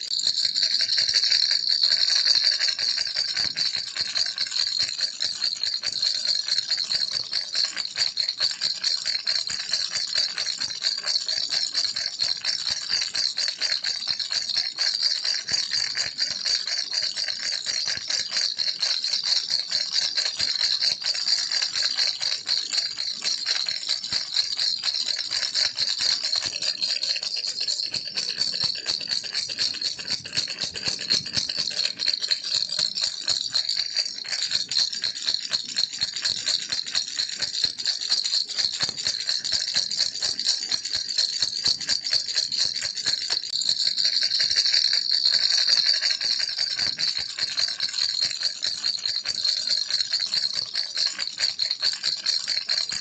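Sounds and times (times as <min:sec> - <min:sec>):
baby rattle shaken: 0:00.0 - 0:08.1, 0:12.0 - 0:53.0.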